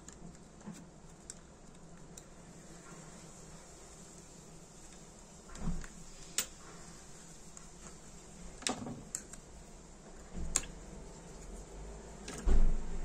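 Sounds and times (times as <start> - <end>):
soft handling noise: 0.0 - 12.6.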